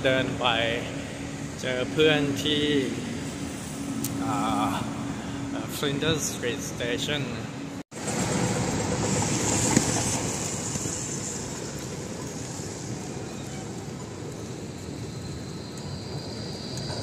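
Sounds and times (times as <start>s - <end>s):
traffic rumble and hiss: 0.0s - 17.0s
tram moving: 0.0s - 17.0s.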